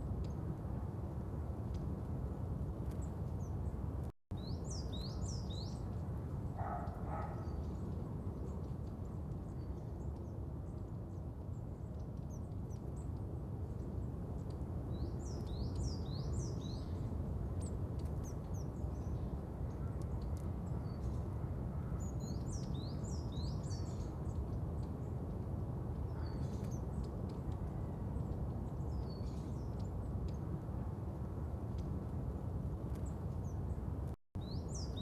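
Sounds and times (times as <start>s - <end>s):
low outdoor background rumble: 0.0s - 35.0s
small birds chirping: 2.8s - 30.6s, 31.6s - 35.0s.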